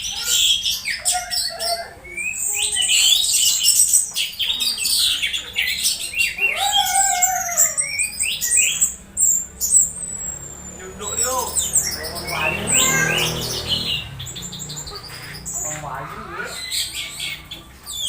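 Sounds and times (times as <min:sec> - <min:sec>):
bird chirping and whistling: 0:00.0 - 0:15.8, 0:16.5 - 0:18.0.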